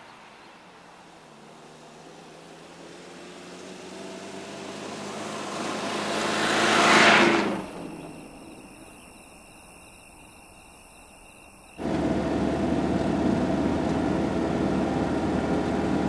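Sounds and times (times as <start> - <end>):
car passing on dirt road: 0.0 - 9.1, 11.8 - 16.0.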